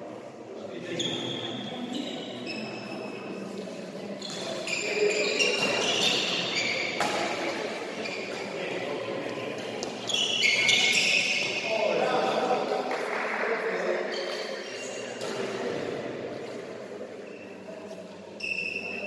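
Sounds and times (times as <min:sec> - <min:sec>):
court shoes squeaking: 0:00.9 - 0:12.6, 0:14.1 - 0:15.8, 0:16.5 - 0:19.0.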